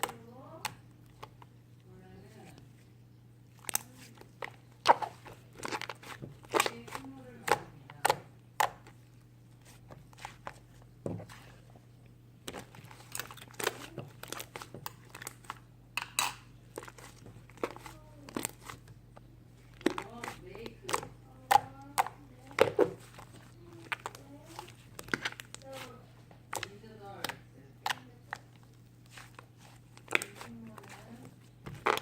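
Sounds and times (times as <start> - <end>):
crinkles and clicks of handling: 0.0 - 32.0
steady low hum: 0.0 - 32.0.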